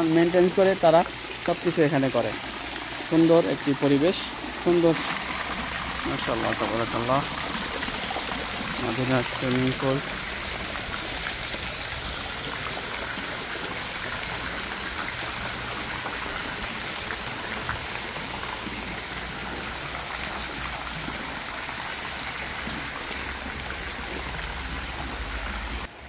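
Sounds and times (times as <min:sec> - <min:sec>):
water jets splashing into pool: 0:00.0 - 0:25.9.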